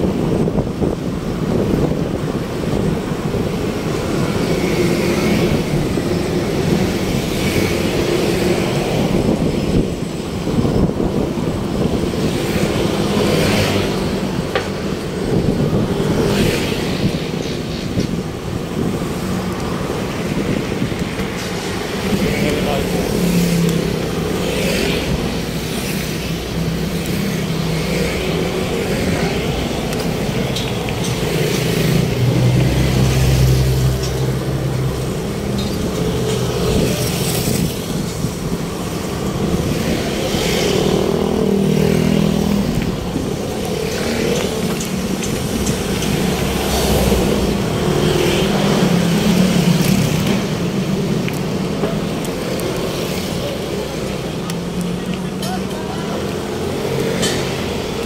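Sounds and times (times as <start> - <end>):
vehicles passing close by: 0.0 - 58.0.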